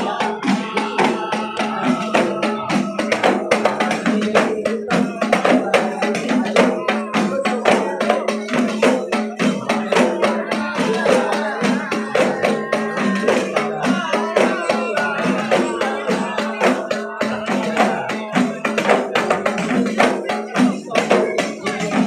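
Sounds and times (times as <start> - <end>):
frame drums beating: 0.0 - 22.0
men chanting: 0.0 - 22.0.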